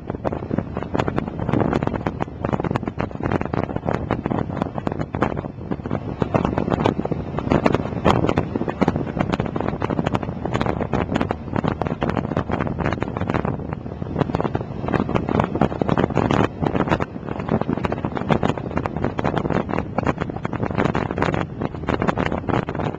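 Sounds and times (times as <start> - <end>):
gusty wind on microphone: 0.0 - 22.9
motorcycle moving: 0.0 - 22.9.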